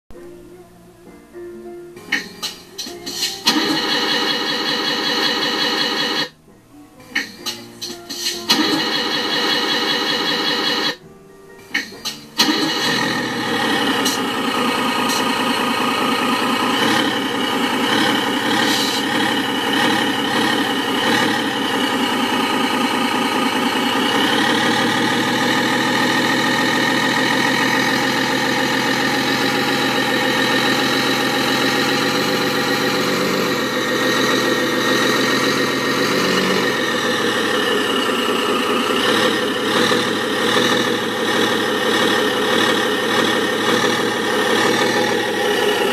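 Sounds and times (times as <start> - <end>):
simulated truck engine idling: 2.1 - 6.4, 7.1 - 11.0, 11.7 - 45.9.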